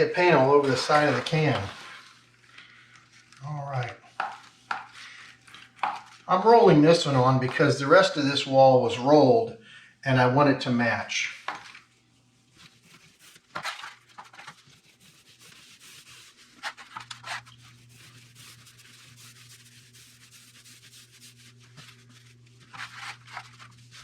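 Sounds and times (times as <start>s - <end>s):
paint roller swishing on wall: 0.0s - 7.2s, 11.4s - 24.0s.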